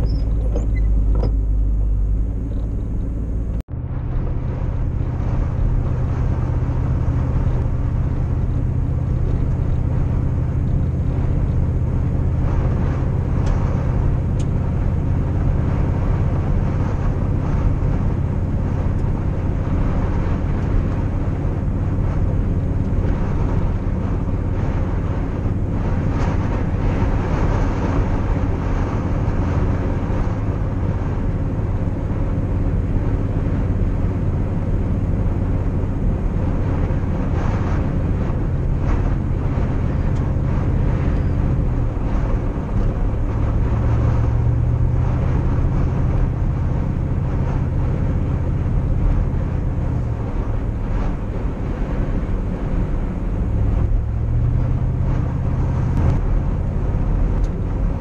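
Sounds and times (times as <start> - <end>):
tyres on gravel road: 0.0 - 58.0
vehicle engine drone: 0.0 - 58.0.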